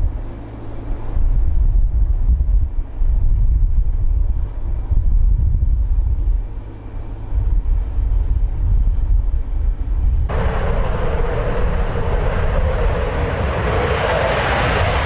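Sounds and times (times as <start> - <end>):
fighter jet engine noise: 0.0 - 15.0
wind rumble on microphone: 0.0 - 15.0.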